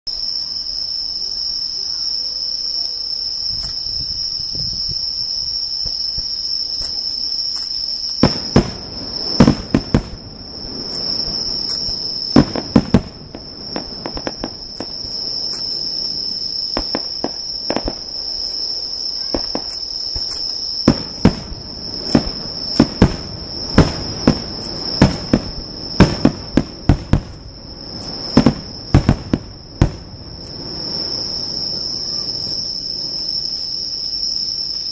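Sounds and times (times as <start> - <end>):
insects chirring: 0.1 - 34.9
fireworks exploding: 2.2 - 34.5.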